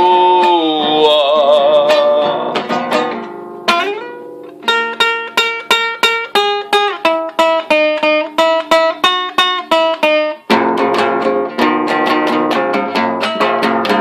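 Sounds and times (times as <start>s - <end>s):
picked guitar-like strings: 0.0s - 14.0s.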